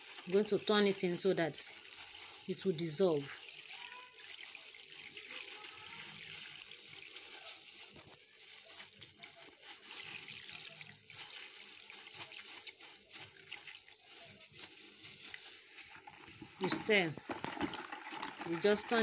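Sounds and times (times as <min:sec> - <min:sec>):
plastic bag rustling: 0:00.0 - 0:19.0
water sloshing in plastic basin: 0:00.0 - 0:19.0.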